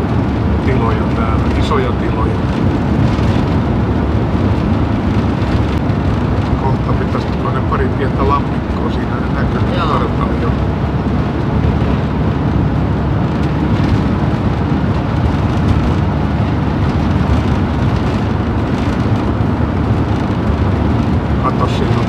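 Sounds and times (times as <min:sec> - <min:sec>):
motorhome road noise: 0:00.0 - 0:22.0.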